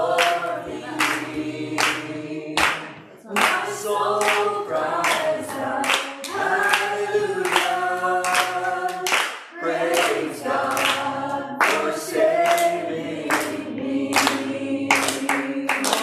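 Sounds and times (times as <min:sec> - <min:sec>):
hands clapping: 0:00.0 - 0:16.0
voices singing gospel song: 0:00.0 - 0:16.0.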